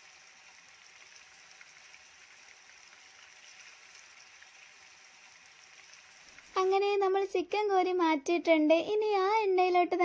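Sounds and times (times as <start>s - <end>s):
chicken sizzling in hot oil: 0.0s - 8.1s.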